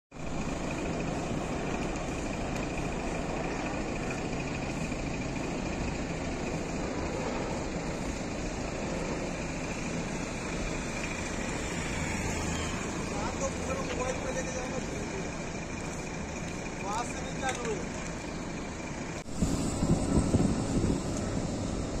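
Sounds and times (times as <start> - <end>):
truck engines idling: 0.2 - 22.0.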